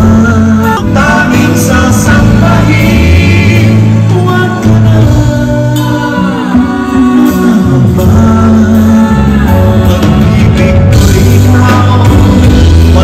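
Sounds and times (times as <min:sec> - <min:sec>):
electric bass line: 0:00.0 - 0:13.0
live band music: 0:00.0 - 0:13.0
man singing into microphone: 0:00.0 - 0:13.0.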